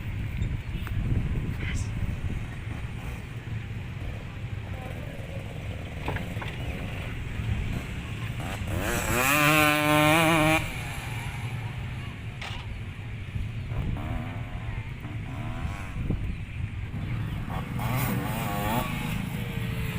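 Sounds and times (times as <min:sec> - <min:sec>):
motocross engines rumbling: 0:00.0 - 0:19.9
motorbike revving close by: 0:02.1 - 0:12.7, 0:13.4 - 0:19.9.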